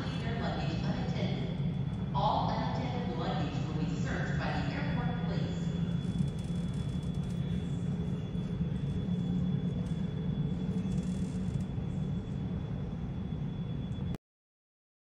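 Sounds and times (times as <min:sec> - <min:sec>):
faint high whine: 0:00.0 - 0:14.2
muffled jet engines rumbling: 0:00.0 - 0:14.2.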